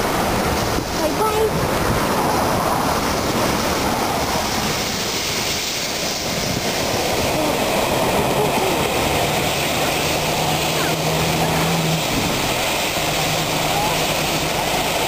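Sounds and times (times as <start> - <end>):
steam train passing: 0.0 - 15.0.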